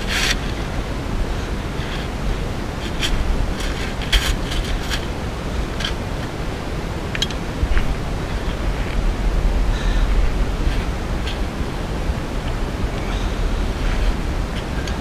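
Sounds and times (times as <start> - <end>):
low rumble and hiss: 0.0 - 15.0
rustling on loose insulation: 0.0 - 15.0.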